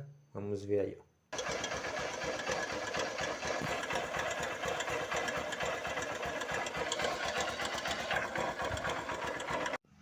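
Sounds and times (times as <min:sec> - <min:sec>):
engine with metallic knocking: 0:01.3 - 0:09.8.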